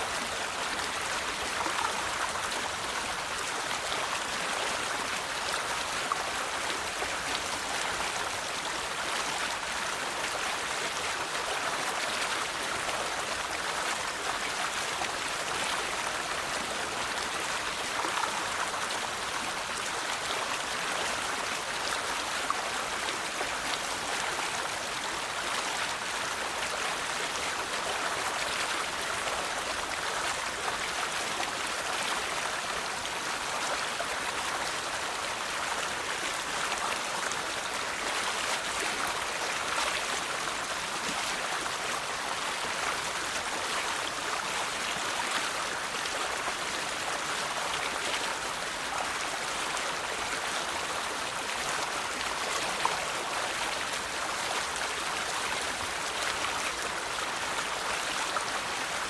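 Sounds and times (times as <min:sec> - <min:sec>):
river water flowing over stones: 0:00.0 - 0:59.0.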